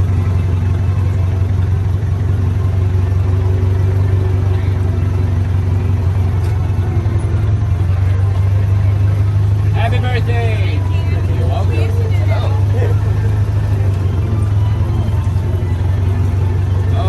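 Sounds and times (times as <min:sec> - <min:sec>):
deep engine hum: 0:00.0 - 0:17.0.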